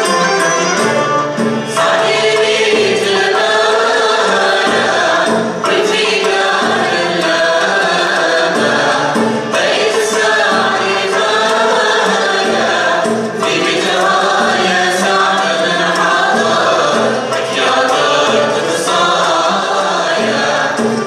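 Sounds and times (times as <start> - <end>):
hand percussion: 0.0 - 21.0
string ensemble playing melody: 0.0 - 21.0
ensemble singing in unison: 1.3 - 21.0.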